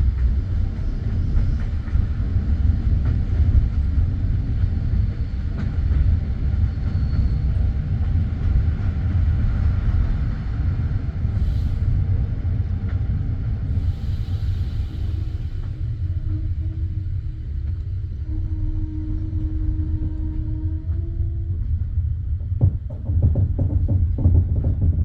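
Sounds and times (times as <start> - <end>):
train carriage rumble: 0.0 - 25.0.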